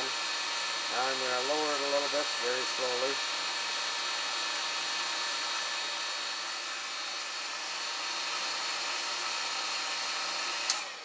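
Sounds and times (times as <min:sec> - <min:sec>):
water pump running: 0:00.0 - 0:10.5.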